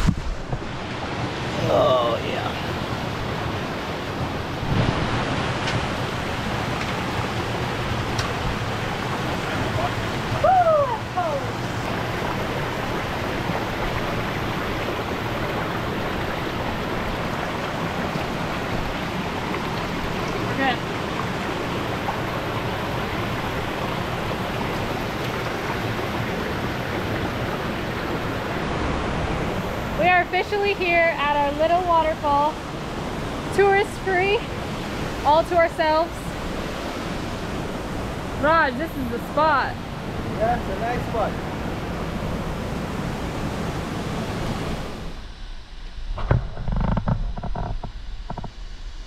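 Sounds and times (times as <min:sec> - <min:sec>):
stream rushing over rocks: 0:00.0 - 0:45.2.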